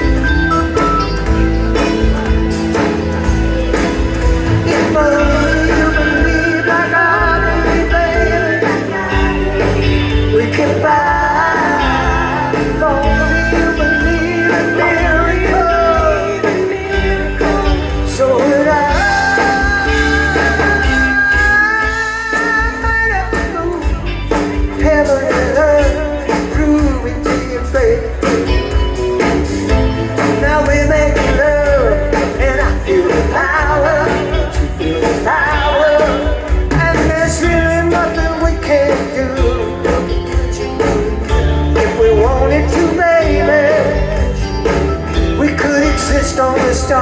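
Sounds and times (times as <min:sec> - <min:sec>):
live rock band: 0:00.0 - 0:47.0.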